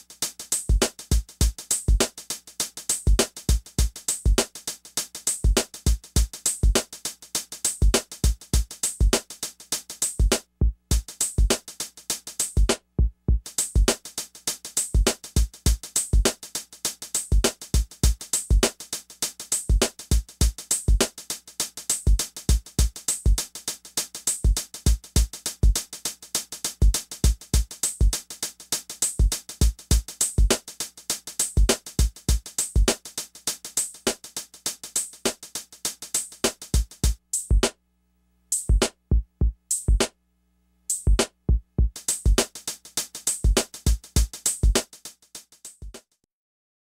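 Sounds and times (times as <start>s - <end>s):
electronic music with drum beat: 0.0s - 37.7s, 38.5s - 40.1s, 40.9s - 46.1s.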